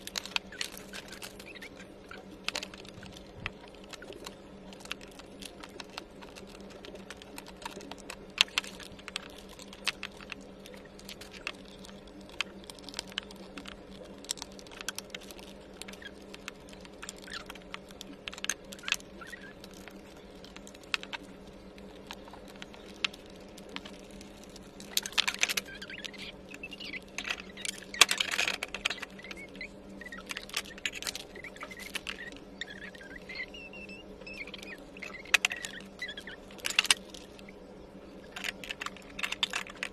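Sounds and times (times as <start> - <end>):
clatter and rustling: 0.0 - 37.6, 38.2 - 39.9
steady low hum: 0.0 - 39.9.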